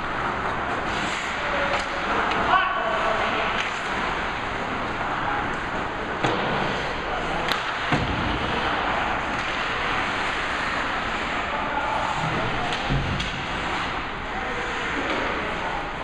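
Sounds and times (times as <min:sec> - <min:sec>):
hockey sticks clacking puck: 0:00.2 - 0:02.5, 0:03.2 - 0:04.8, 0:05.6 - 0:15.6.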